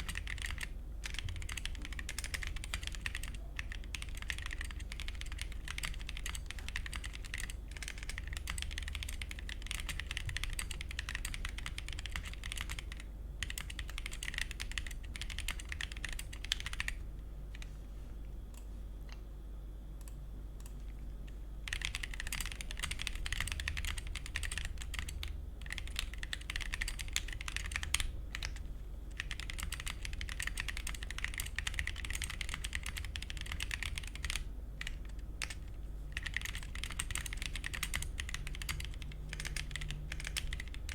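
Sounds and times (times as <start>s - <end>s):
typing on mechanical keyboard: 0.0s - 17.7s, 21.6s - 40.9s.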